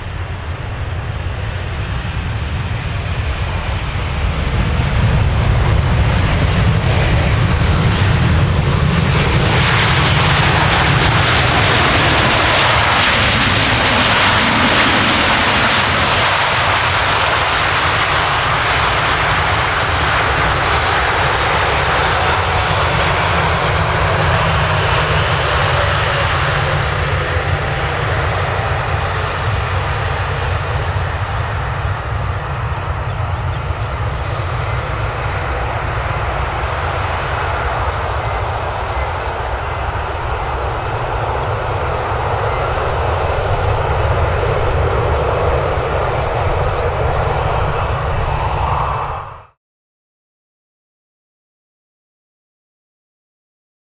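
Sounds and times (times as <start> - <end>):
jet engines winding down: 0.0 - 49.6.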